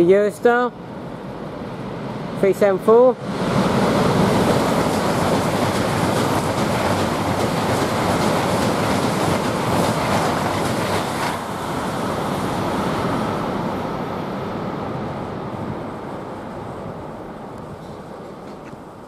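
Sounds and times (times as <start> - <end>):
high-speed train rushing past: 0.0 - 19.0.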